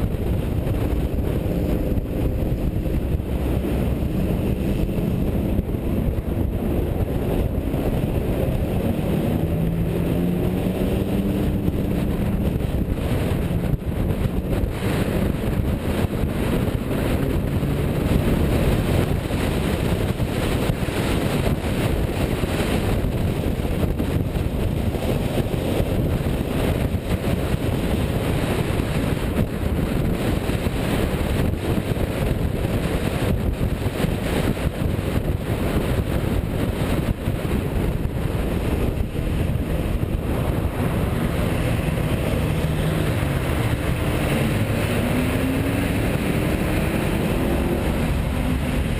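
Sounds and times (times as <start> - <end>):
car engine running: 0.0 - 48.9
wind noise on microphone: 0.0 - 48.9.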